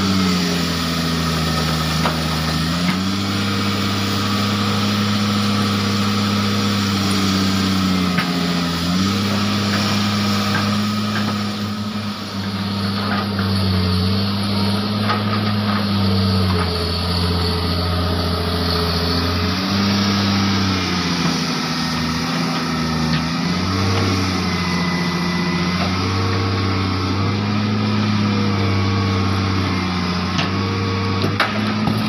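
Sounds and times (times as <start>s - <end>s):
excavator diesel engine under load: 0.0s - 32.0s.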